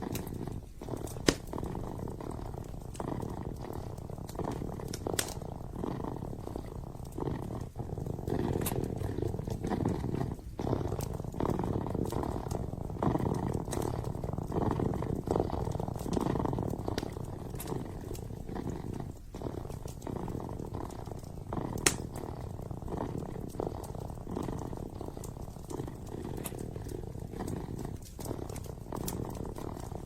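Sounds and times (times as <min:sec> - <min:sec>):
kitten purring: 0:00.0 - 0:30.0
wood fire crackling and popping: 0:00.0 - 0:30.0.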